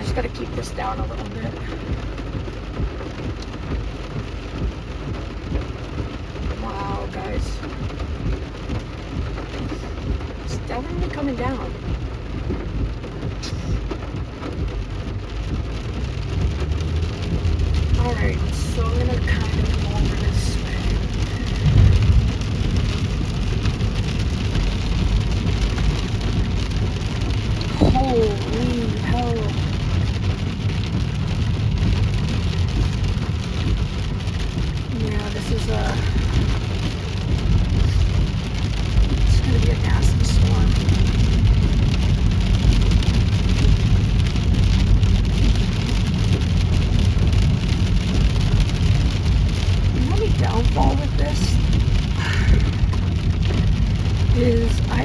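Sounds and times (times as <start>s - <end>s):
heavy rain on a car: 0.0s - 55.0s
low rumble of moving car: 0.0s - 55.0s.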